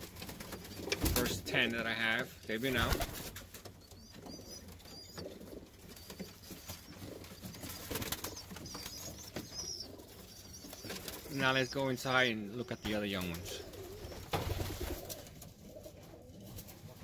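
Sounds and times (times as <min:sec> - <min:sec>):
birds tapping and scuffling: 0:00.0 - 0:17.0
pigeons cooing softly: 0:00.0 - 0:17.0.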